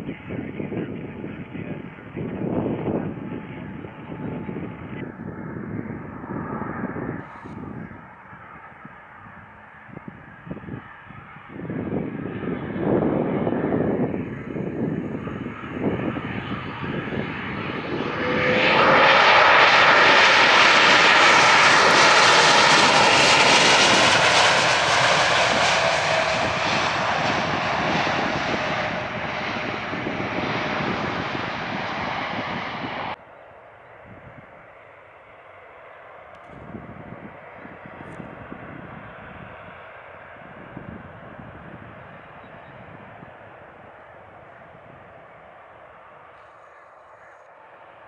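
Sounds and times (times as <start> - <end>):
airplane engine passing: 0.0 - 48.0.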